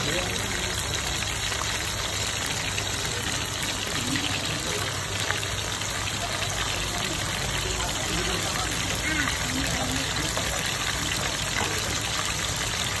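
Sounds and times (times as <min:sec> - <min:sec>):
fish deep-frying in hot oil: 0:00.0 - 0:13.0.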